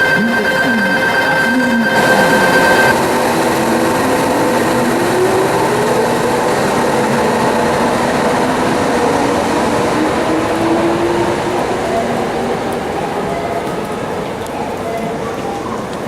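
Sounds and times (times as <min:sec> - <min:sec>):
subway train wheels rumbling: 0:00.0 - 0:16.0.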